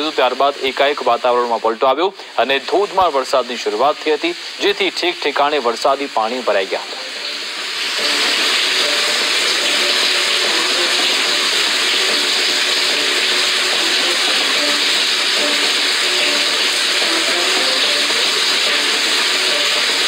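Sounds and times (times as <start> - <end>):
torrential rain hissing: 0.0 - 20.0.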